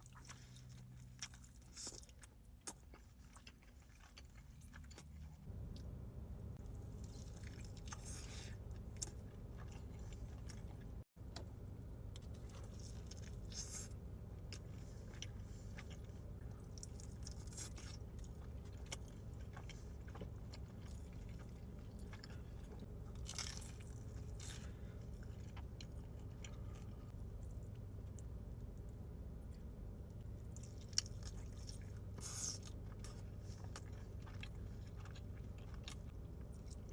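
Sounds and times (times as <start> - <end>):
person chewing crunchy food: 0.0 - 5.9, 6.5 - 11.1, 12.2 - 28.9, 29.6 - 36.9
steady low hum: 0.0 - 36.9.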